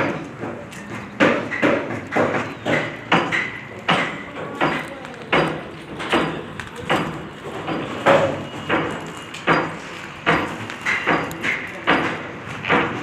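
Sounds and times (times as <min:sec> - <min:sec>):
hammer blows ringing: 0:00.0 - 0:13.0.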